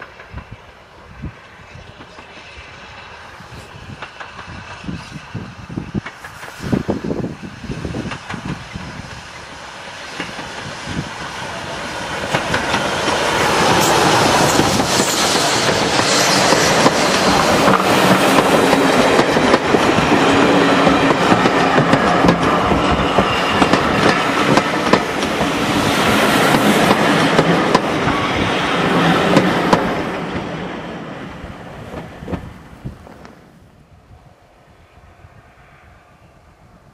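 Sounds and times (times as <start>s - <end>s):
steam train passing: 0.0s - 36.9s.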